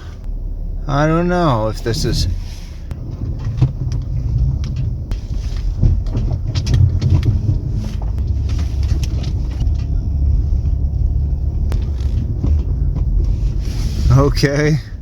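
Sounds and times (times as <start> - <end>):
vehicle rumble: 0.0 - 15.0
body and suspension rattles: 1.6 - 15.0.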